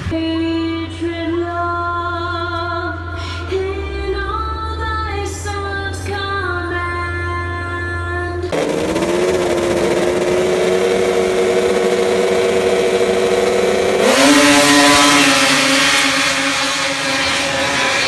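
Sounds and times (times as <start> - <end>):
snowmobile engines running: 0.8 - 18.0.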